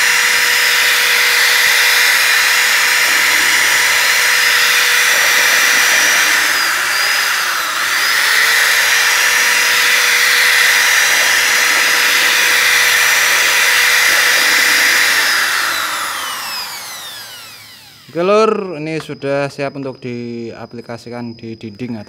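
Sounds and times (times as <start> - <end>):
electric drill motor whine: 0.0 - 18.6.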